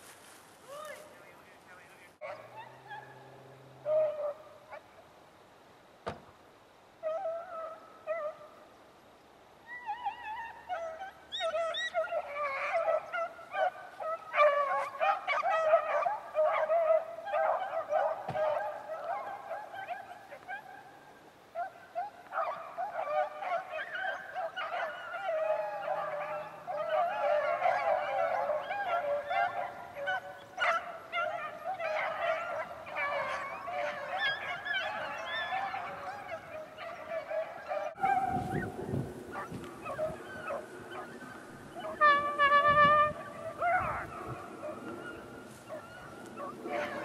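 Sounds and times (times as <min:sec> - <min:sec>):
hounds baying: 0:00.7 - 0:05.0, 0:07.0 - 0:08.6, 0:09.7 - 0:47.0.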